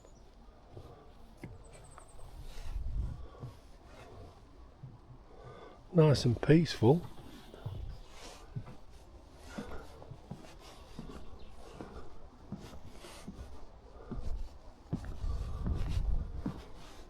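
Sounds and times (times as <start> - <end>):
footsteps on wooden boardwalk: 0.0 - 17.0.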